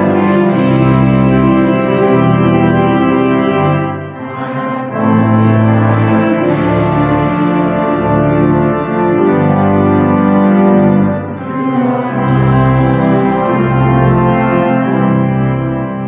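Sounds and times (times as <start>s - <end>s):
instrumental music of held chords: 0.0s - 16.0s.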